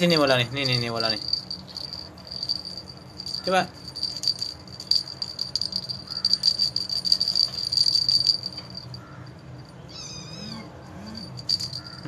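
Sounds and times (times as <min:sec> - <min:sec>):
bell jingling in plastic ball: 0:00.0 - 0:09.8, 0:10.8 - 0:12.0.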